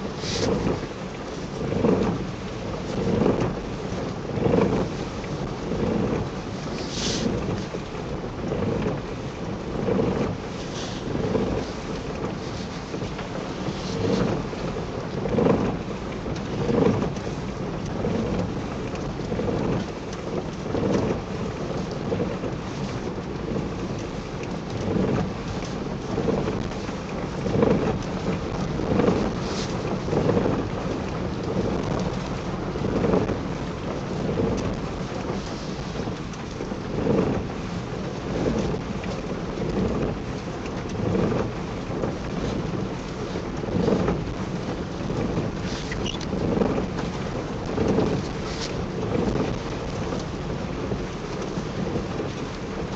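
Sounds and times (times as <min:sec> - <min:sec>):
car road and engine noise: 0:00.0 - 0:52.9.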